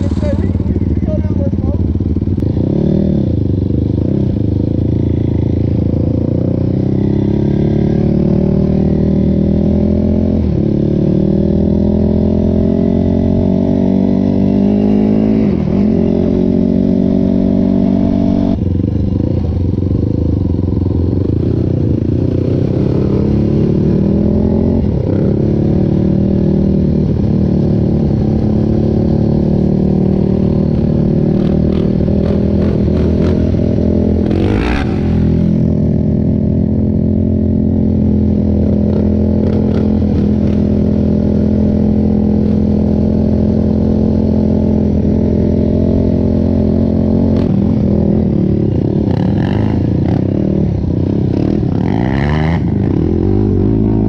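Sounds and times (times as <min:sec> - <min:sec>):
quad engine accelerating: 0:00.0 - 0:54.0.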